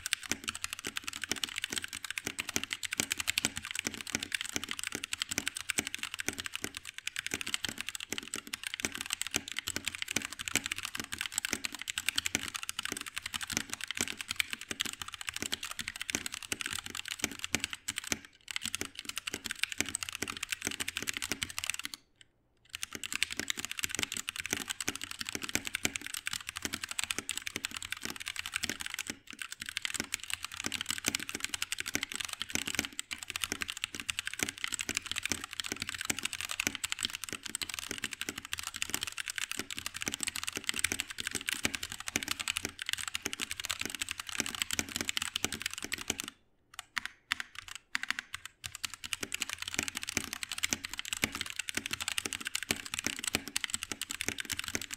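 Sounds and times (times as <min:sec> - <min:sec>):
fast typing on mechanical keyboard: 0:00.0 - 0:22.1, 0:22.7 - 0:54.9.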